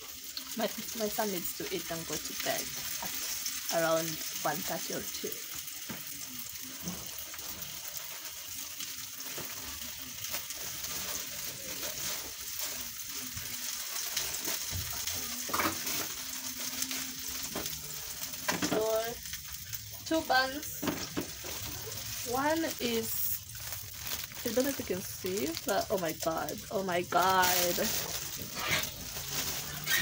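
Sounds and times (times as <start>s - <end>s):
sausages sizzling in oil: 0.0s - 30.0s.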